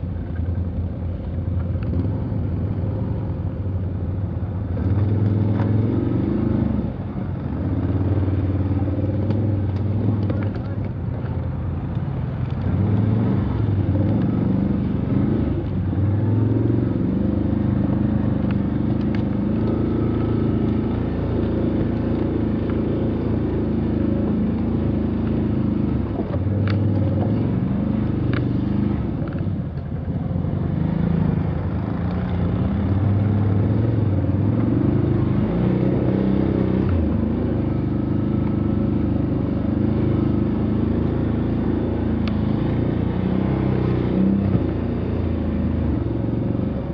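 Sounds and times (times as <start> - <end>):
vehicle engine running under load: 0.0 - 46.9.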